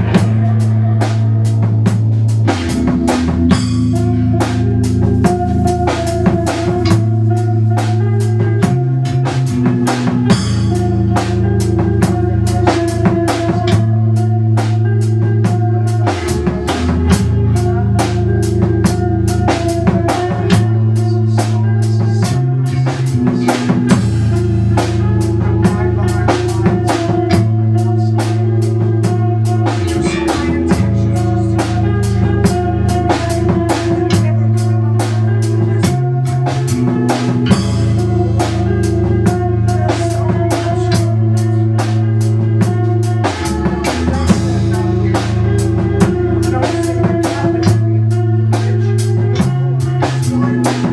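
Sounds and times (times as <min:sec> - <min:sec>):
drum kit fast beat: 0:00.0 - 0:50.9
low bass line: 0:00.0 - 0:50.9.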